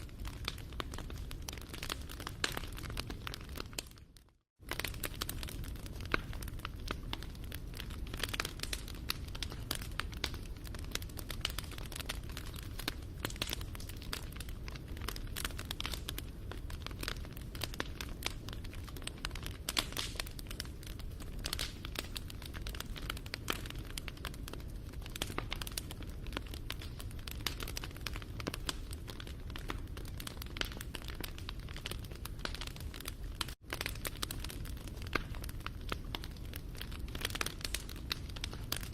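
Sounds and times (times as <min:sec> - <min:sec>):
low rumble of burning: 0:00.0 - 0:38.9
wood fire crackling: 0:00.0 - 0:38.9.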